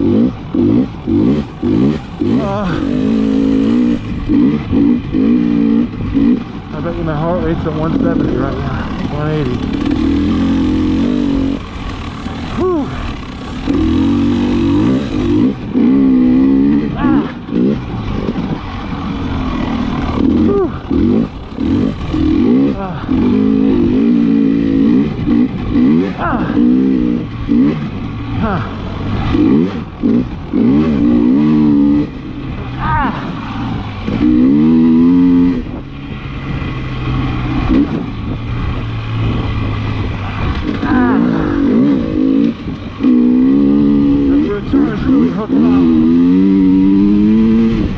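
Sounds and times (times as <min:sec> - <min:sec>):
dirt bike engine in sand: 0:00.0 - 0:47.9
rider grunting: 0:00.0 - 0:47.9.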